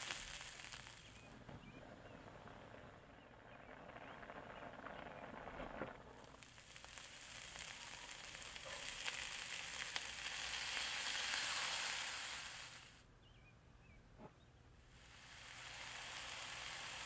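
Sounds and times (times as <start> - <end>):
onions sizzling in a frying pan: 0.0 - 13.0, 14.9 - 17.0.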